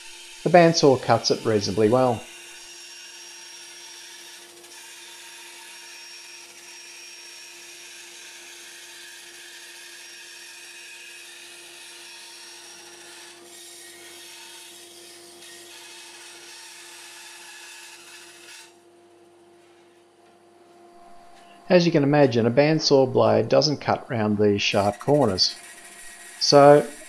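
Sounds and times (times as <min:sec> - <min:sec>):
bandsaw cutting metal sheet: 0:00.0 - 0:18.7, 0:21.0 - 0:27.0.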